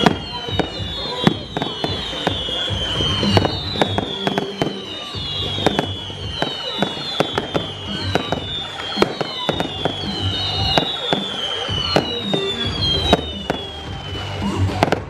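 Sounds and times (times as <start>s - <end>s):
falling firework whistles: 0.0s - 15.0s
fireworks bangs and cracks: 0.0s - 15.0s.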